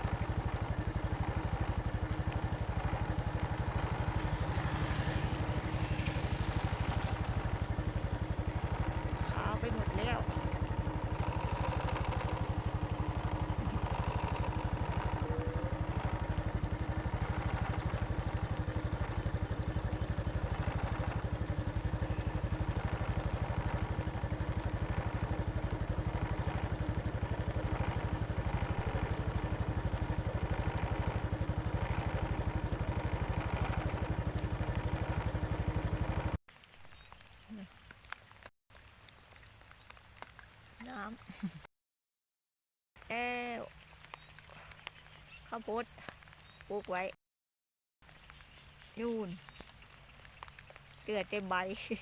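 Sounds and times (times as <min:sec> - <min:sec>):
small engine running: 0:00.0 - 0:36.7, 0:43.0 - 0:47.1, 0:48.1 - 0:52.0.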